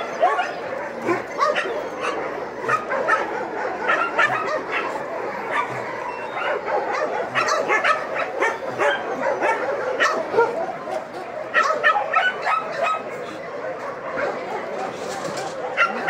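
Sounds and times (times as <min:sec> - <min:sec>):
many dogs barking and yipping: 0:00.0 - 0:16.0.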